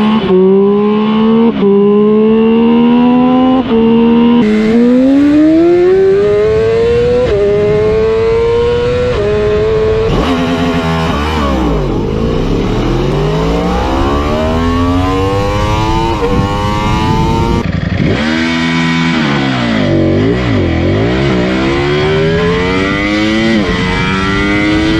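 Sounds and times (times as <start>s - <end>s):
motorcycle engines revving: 0.0s - 24.9s.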